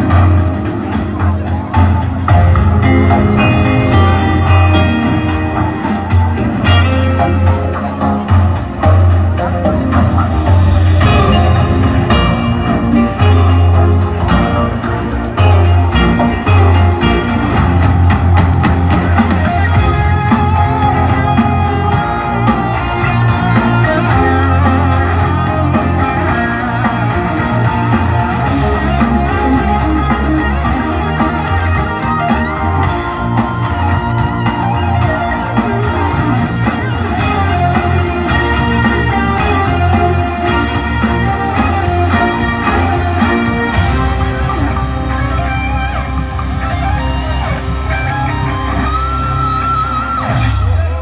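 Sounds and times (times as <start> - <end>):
drums: 0.0 - 51.0
guitar: 0.0 - 51.0
strong bass line: 0.0 - 51.0.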